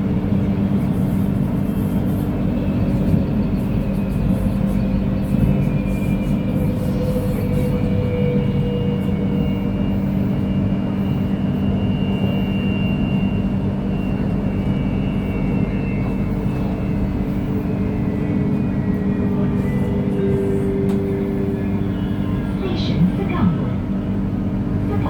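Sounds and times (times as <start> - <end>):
electric train rumble and hum: 0.0 - 25.0.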